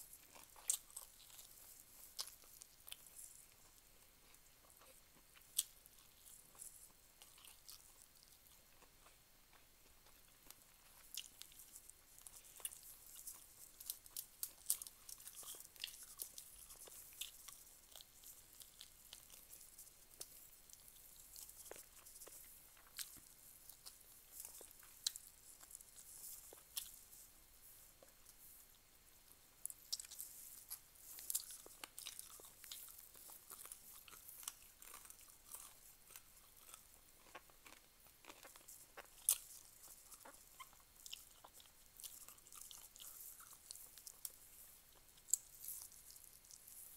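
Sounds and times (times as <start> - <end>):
chewing and crunching food: 0.0 - 46.9.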